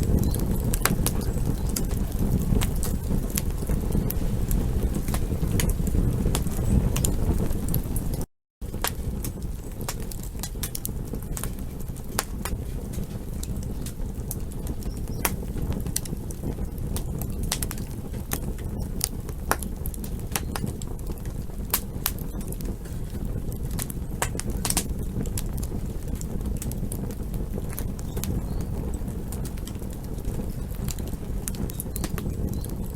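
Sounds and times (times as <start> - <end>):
campfire crackling: 0.0 - 32.9.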